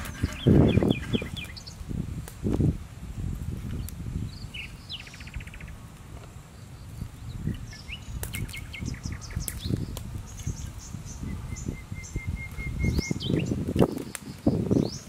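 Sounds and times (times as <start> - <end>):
small birds chirping: 0.0 - 1.8, 3.7 - 15.0.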